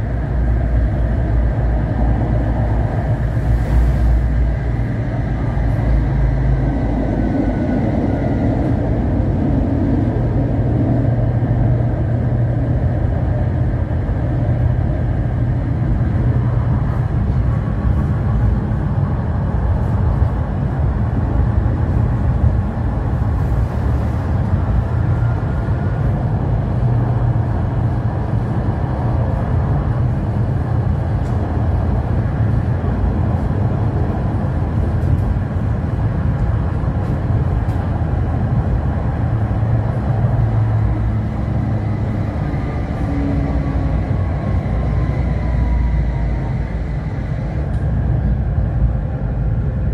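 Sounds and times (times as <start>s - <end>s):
tram wheels rumbling on rails: 0.0s - 49.9s.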